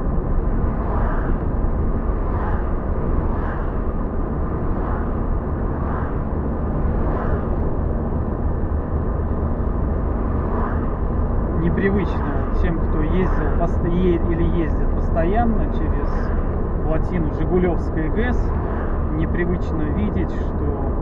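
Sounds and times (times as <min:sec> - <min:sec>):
car road noise from inside: 0:00.0 - 0:21.0.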